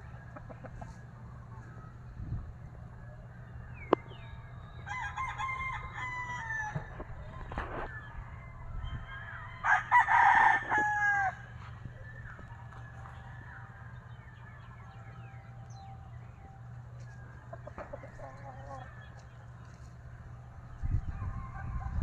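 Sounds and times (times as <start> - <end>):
roosters crowing: 0.0 - 22.0.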